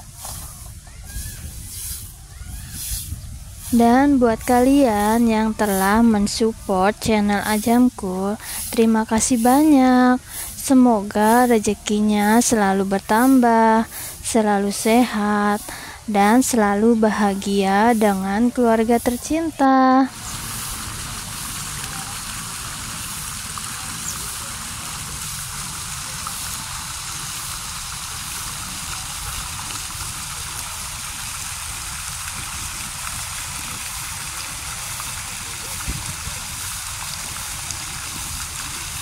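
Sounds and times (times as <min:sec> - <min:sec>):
fountain splashing into pond: 0:00.0 - 0:39.0.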